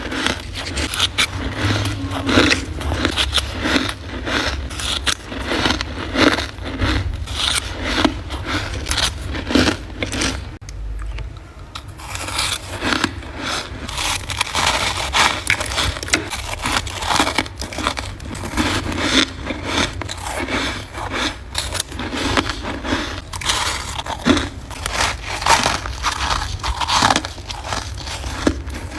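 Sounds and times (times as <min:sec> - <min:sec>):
frost being crunched and chewed: 0:00.0 - 0:10.6, 0:11.8 - 0:28.9.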